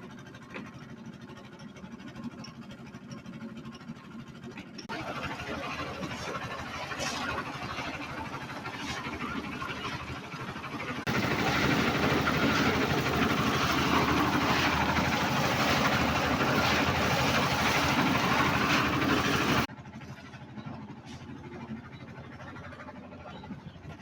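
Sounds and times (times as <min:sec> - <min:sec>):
engine-like machine noise: 0:00.0 - 0:24.0.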